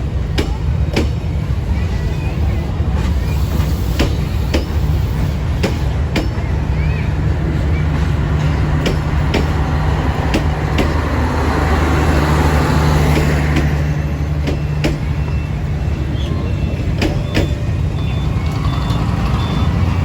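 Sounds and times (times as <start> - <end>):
train rumble and hum: 0.0 - 20.0
train wheels clicking over rail joints: 0.0 - 20.0.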